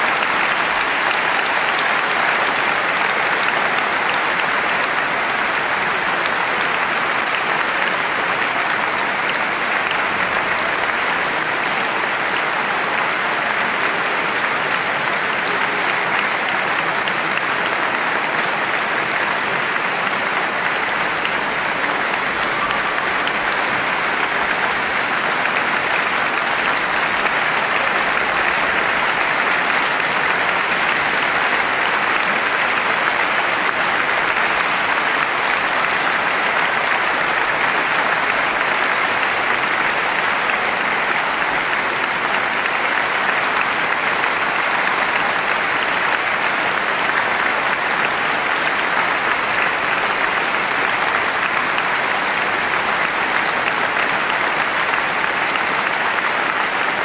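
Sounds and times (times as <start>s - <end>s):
audience applauding: 0.0s - 57.0s.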